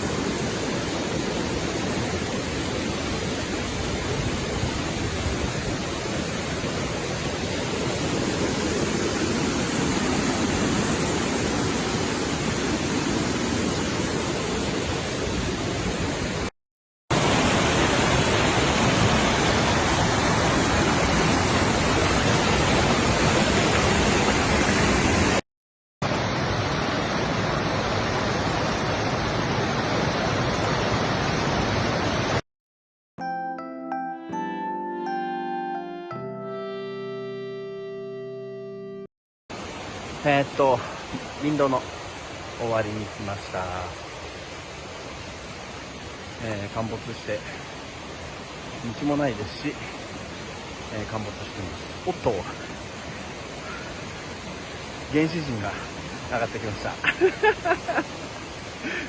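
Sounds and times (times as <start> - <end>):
stream water rushing: 0.0 - 16.5, 17.1 - 25.4, 26.0 - 32.4, 39.5 - 59.0.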